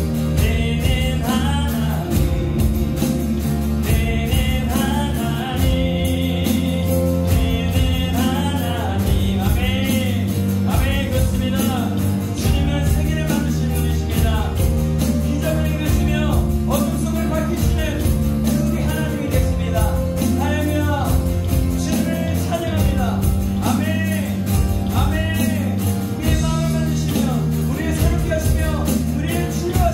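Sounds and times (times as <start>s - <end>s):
acoustic guitar: 0.0s - 29.9s
bass guitar: 0.0s - 29.9s
electronic drum beat: 0.0s - 29.9s
keyboard: 0.0s - 29.9s
person singing: 0.0s - 29.9s.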